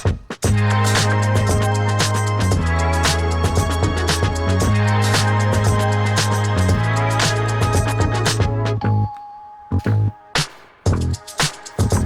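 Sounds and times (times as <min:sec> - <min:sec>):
electronic music with a beat: 0:00.0 - 0:12.0.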